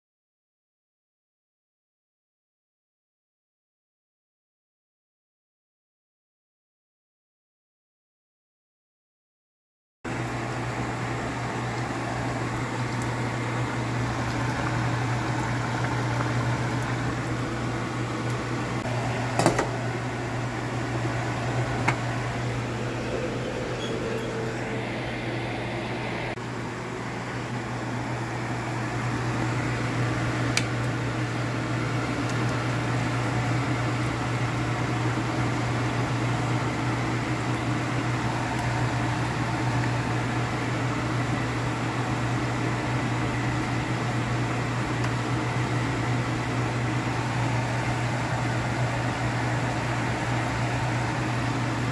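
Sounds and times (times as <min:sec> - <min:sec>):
kitchen appliance humming: 0:10.1 - 0:51.9
pot simmering: 0:10.1 - 0:51.9.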